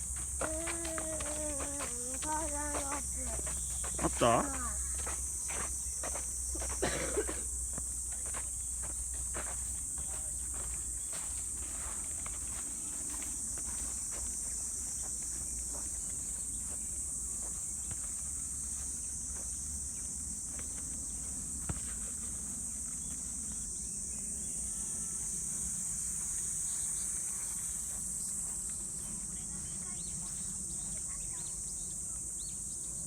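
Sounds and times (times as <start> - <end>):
footsteps crunching on a trail: 0.0 - 24.6, 25.2 - 31.5
high-pitched insect chorus: 0.0 - 33.0.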